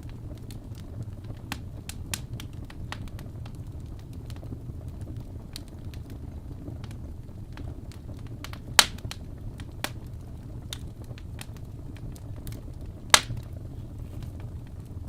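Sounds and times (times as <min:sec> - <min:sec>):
sharp fire pops: 0:00.0 - 0:15.0
wood fire crackling: 0:00.0 - 0:15.0.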